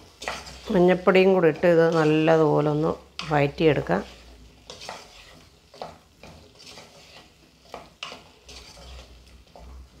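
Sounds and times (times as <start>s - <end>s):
light frying sizzle: 0.0s - 10.0s
wooden spatula scraping pot: 0.0s - 10.0s.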